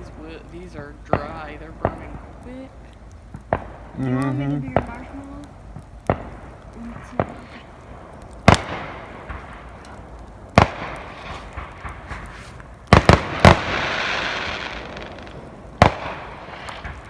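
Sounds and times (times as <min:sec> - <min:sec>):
crackling hiss of fireworks: 0:00.0 - 0:17.0
fireworks bangs: 0:00.0 - 0:17.0.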